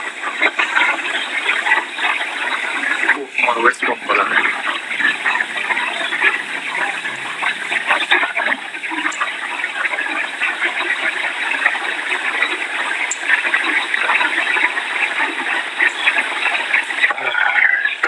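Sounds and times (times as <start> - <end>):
hurricane wind and rain: 0.0 - 18.0.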